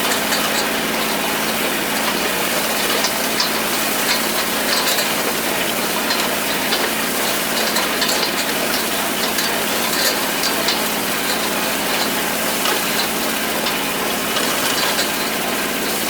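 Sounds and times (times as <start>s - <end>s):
clicks and rattles of tines: 0.0s - 16.0s
hay tedder rotors clattering: 0.0s - 16.0s
tractor diesel engine running: 0.0s - 16.0s.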